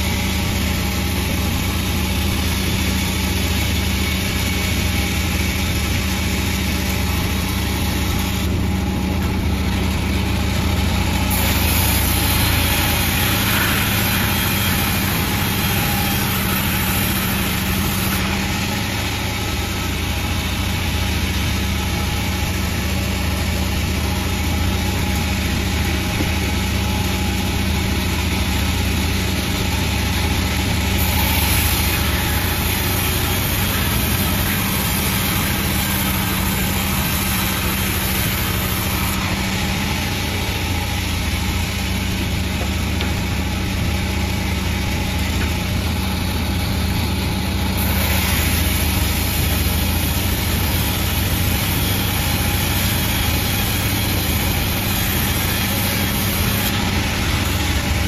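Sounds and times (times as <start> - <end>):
sawmill engine hum: 0.0 - 58.0.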